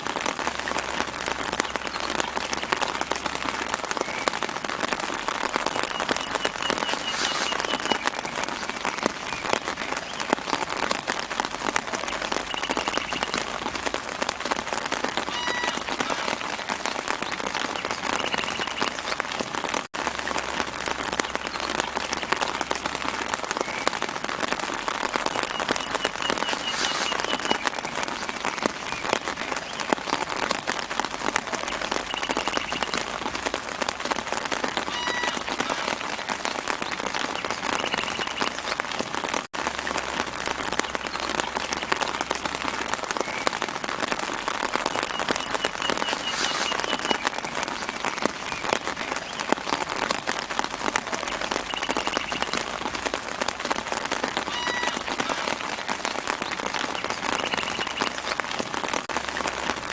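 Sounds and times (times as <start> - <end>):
rain pattering on leaves: 0.0 - 59.9.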